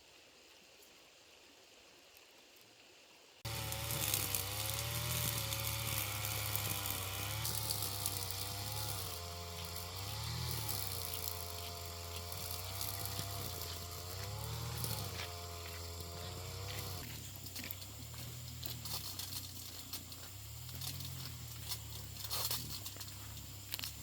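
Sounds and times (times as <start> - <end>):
motor running: 3.5 - 24.0.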